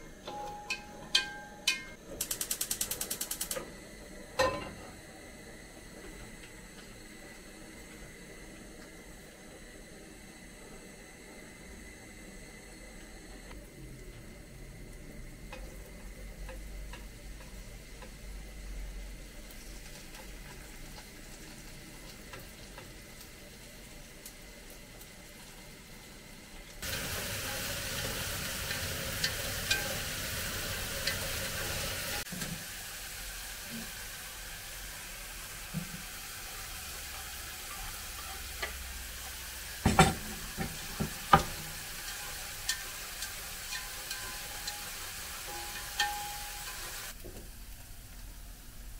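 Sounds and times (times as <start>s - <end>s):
food frying in hot oil: 1.2s - 48.9s.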